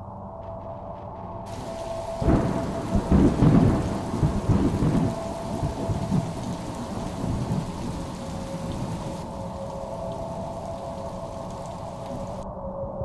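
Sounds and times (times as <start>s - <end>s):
rain hissing: 1.5s - 12.4s
thunder rumbling: 1.5s - 12.4s.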